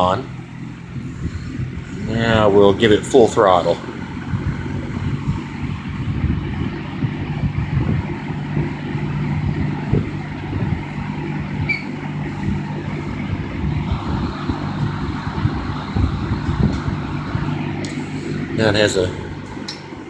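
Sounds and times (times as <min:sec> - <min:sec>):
fan motor hum: 0:00.0 - 0:20.0
rushing buffeting air: 0:00.0 - 0:20.0.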